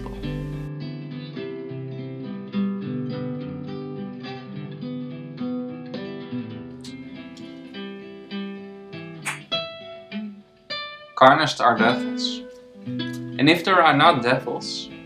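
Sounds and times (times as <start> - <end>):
acoustic guitar picking notes: 0.0 - 15.0.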